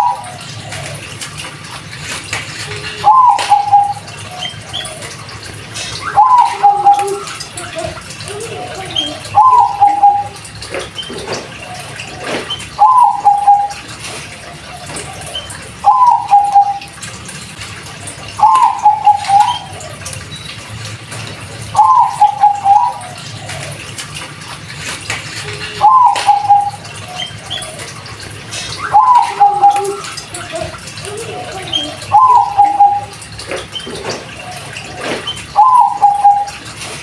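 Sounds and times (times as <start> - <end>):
dove cooing: 0.0 - 1.1, 2.7 - 17.0, 18.1 - 20.2, 21.7 - 23.9, 25.4 - 36.8.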